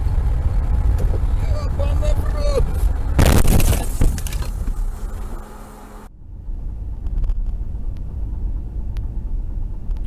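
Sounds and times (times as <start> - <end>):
car driving at highway speed: 0.0 - 10.0.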